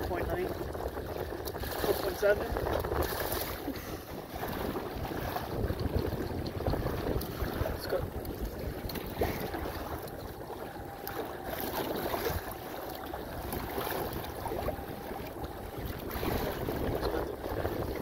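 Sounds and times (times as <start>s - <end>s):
water slapping kayak hull: 0.0s - 18.0s
wind buffeting microphone: 0.0s - 18.0s.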